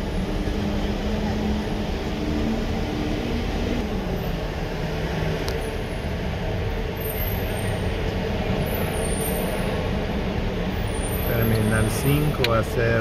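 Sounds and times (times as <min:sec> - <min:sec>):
heavy road traffic rumble: 0:00.0 - 0:13.0.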